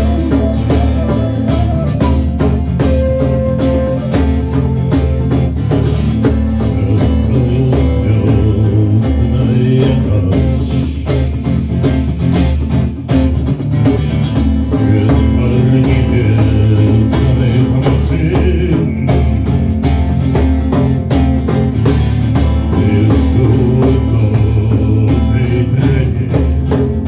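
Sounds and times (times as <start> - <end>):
bass line: 0.0 - 27.0
live band music: 0.0 - 27.0
percussive hits: 0.0 - 27.0.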